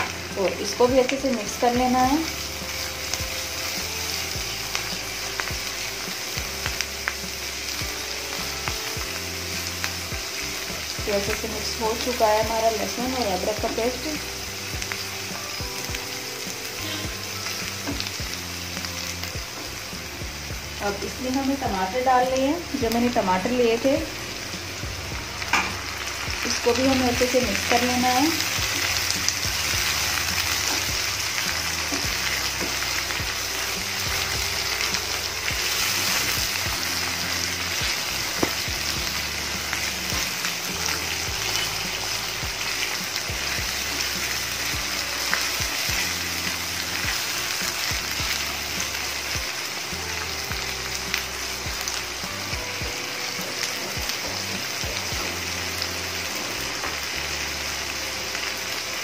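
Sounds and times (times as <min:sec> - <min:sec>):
food sizzling in oil: 0:00.0 - 0:59.0
soft background music: 0:00.0 - 0:59.0.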